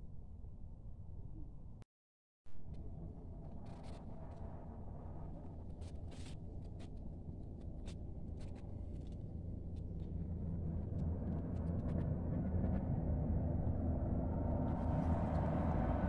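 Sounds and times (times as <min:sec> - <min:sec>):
low outdoor rumble: 0:02.5 - 0:16.0.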